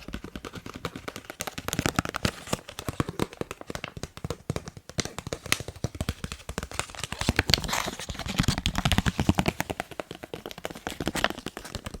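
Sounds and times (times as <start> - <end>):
fast tapping on a face mask: 0.0 - 12.0.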